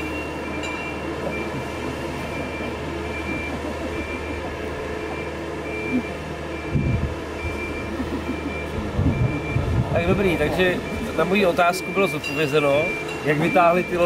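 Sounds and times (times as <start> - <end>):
engine low hum: 0.0 - 14.0
short high warning beeps: 0.0 - 14.0.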